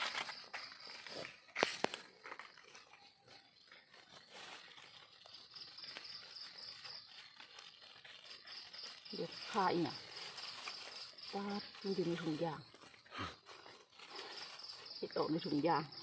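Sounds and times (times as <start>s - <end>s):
insect trilling: 0.0s - 16.0s
leaves crackling and rustling: 0.0s - 16.0s.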